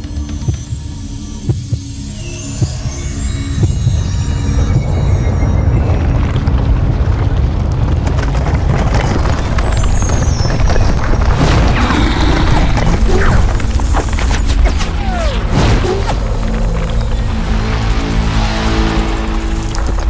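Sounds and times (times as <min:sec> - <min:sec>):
cinematic music: 0:00.0 - 0:07.5, 0:11.2 - 0:20.0
crackling: 0:03.5 - 0:20.0.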